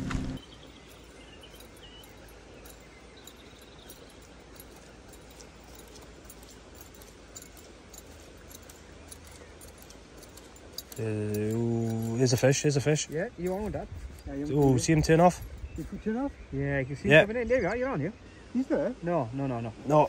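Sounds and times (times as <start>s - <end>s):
faint bird chirps: 0.4s - 18.8s
low steady background hiss: 0.4s - 20.0s.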